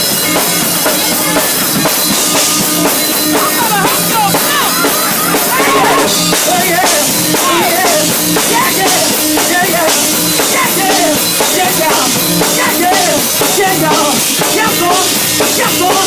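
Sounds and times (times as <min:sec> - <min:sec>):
high bending melody: 0:00.0 - 0:14.1
drum kit steady beat: 0:00.0 - 0:16.0
live gospel band music: 0:00.0 - 0:16.0.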